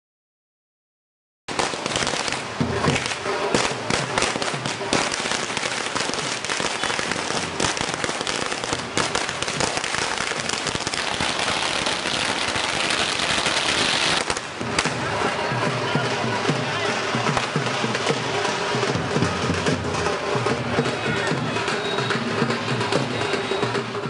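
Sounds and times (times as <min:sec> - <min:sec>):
firecrackers crackling: 0:01.5 - 0:24.0.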